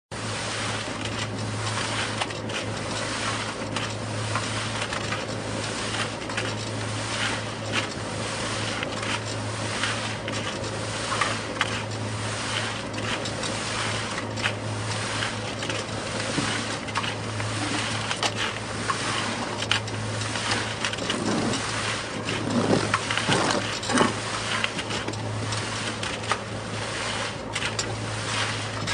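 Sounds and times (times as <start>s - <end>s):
concrete churning in mixer: 0.1s - 28.9s
concrete mixer motor hum: 0.1s - 28.9s.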